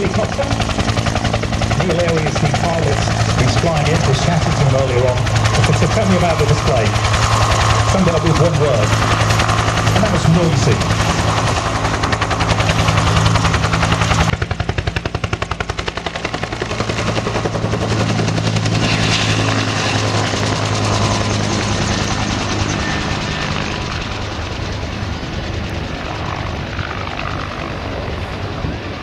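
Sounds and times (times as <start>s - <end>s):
helicopter rotor thudding: 0.0s - 27.6s
helicopter engine drone: 0.0s - 29.0s.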